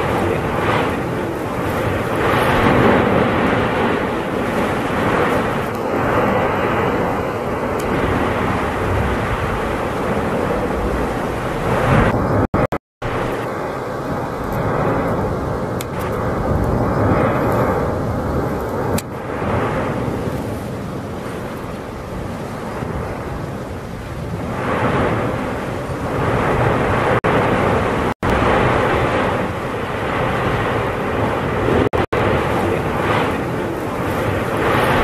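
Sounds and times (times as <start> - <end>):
volcanic eruption roaring: 0.0 - 35.0.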